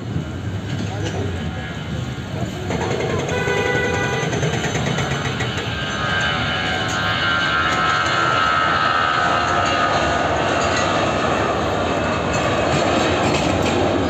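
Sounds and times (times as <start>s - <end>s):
jet engines passing: 0.0s - 14.0s.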